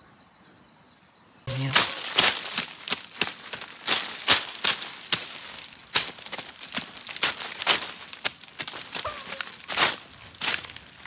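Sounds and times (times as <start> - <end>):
hand tool digging into soil: 1.5 - 10.9.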